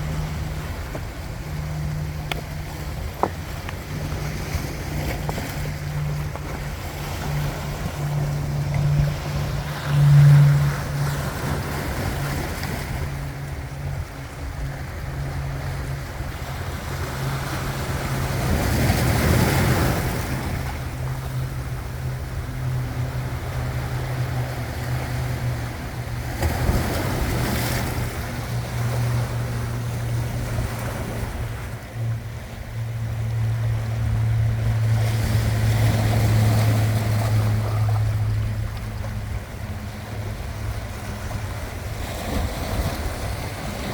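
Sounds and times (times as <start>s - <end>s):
sea waves washing in: 0.0s - 43.9s
steady low hum: 0.0s - 43.9s.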